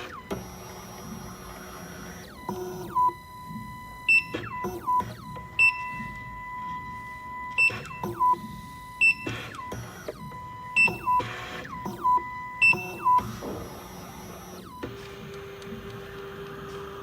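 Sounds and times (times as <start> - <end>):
machine motors whirring: 0.0 - 17.0.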